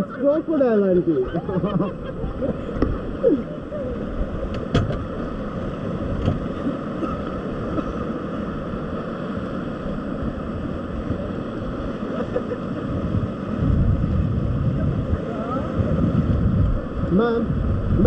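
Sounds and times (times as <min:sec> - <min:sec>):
rushing river water: 0:00.0 - 0:18.0
wind buffeting microphone: 0:01.1 - 0:18.0.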